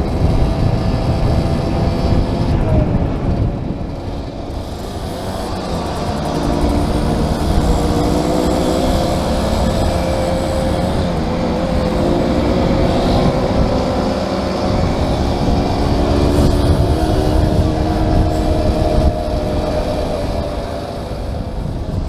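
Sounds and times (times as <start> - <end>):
small motorcycle engine running: 0.0 - 22.0
wind rumbling on microphone: 0.0 - 22.0.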